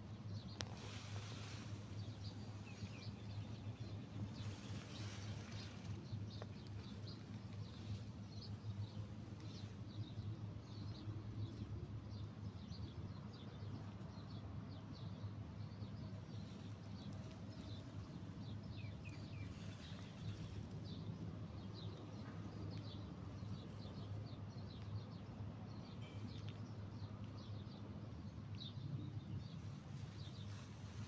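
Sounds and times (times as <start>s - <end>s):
small birds chirping: 0.2s - 31.0s.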